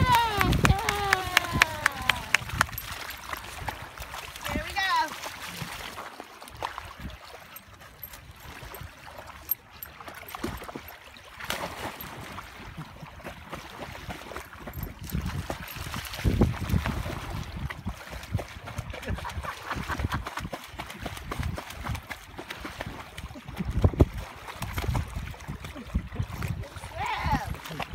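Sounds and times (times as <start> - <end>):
dogs splashing in water: 0.0 - 27.9
water lapping: 0.0 - 27.9.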